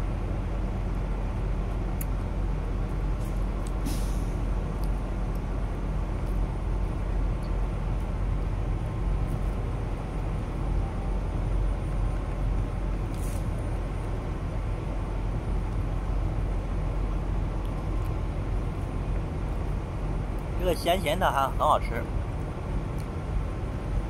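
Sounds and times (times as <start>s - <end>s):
truck engines and traffic rumble: 0.0s - 24.0s.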